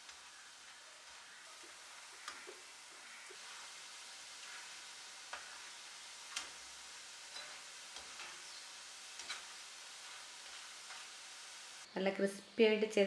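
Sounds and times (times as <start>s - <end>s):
food deep-frying in oil: 0.0s - 11.9s.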